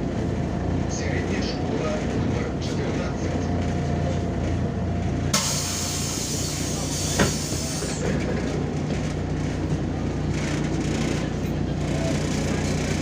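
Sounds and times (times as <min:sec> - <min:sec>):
bus drivetrain hum: 0:00.0 - 0:13.0
road noise: 0:00.0 - 0:13.0.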